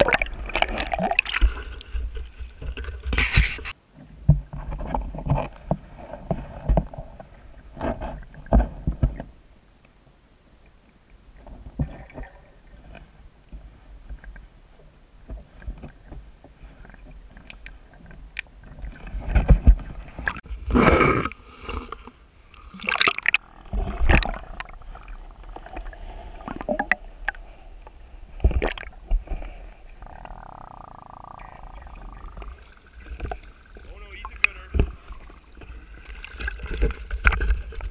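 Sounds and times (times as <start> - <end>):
water splashing and gurgling: 0.0 - 9.4, 14.1 - 37.9.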